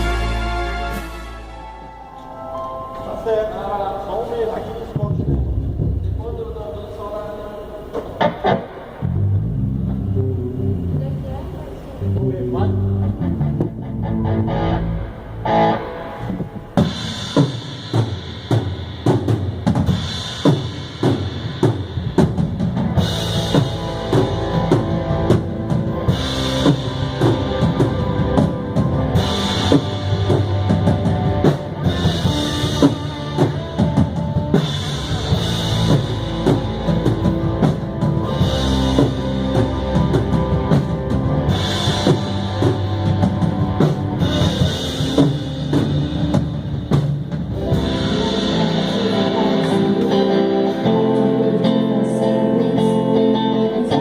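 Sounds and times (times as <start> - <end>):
rock band playing: 0.0 - 7.1, 7.8 - 54.0.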